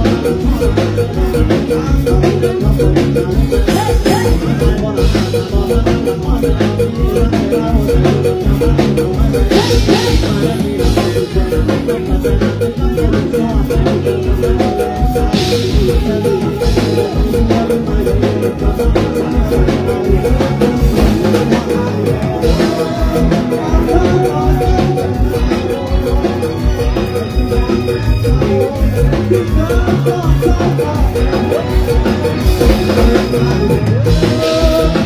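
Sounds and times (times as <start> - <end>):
drum kit beat: 0.0 - 35.0
live band music over pa: 0.0 - 35.0.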